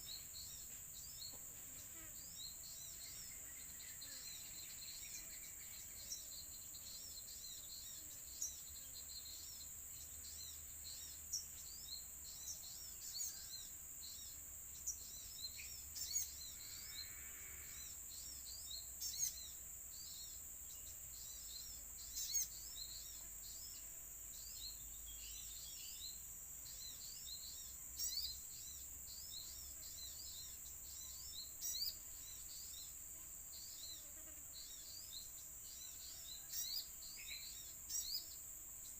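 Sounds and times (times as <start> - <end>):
high-pitched insect drone: 0.0 - 38.9
small birds chirping: 0.0 - 38.9.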